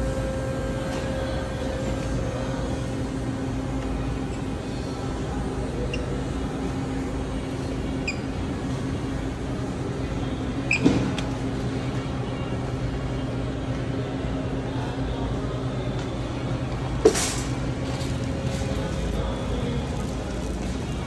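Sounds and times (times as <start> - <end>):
refrigeration and ventilation hum: 0.0 - 21.0.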